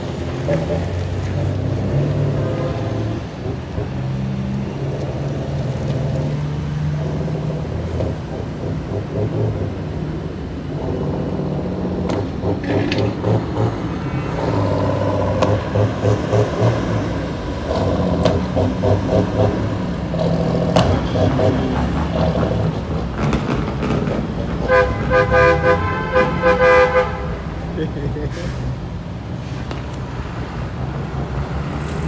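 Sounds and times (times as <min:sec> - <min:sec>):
truck diesel engine under load: 0:00.0 - 0:32.0.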